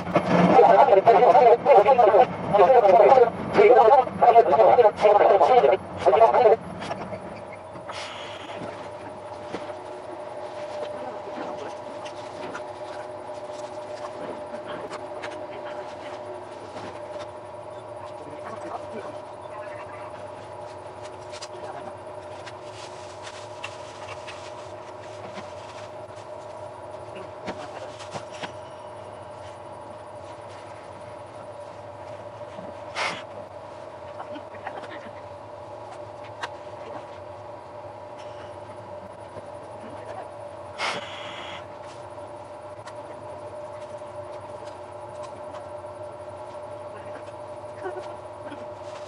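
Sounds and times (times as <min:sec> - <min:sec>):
train equipment humming: 0:00.0 - 0:49.0.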